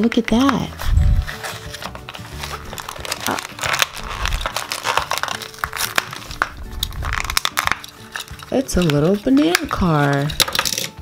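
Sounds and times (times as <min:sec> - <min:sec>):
plastic and cardboard crinkling: 0:00.0 - 0:11.0.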